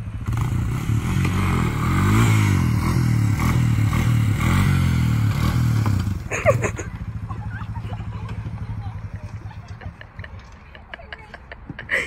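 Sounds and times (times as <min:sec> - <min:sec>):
quad bike engine revving: 0:00.0 - 0:09.9.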